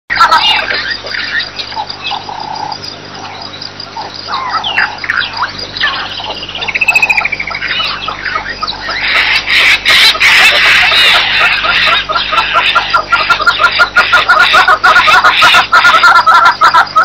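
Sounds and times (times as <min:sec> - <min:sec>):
wild birds chirping: 0:00.1 - 0:17.0.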